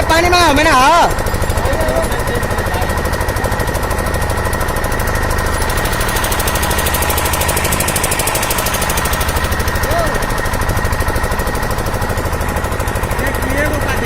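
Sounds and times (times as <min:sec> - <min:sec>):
engine knocking rapidly: 0:00.0 - 0:14.0.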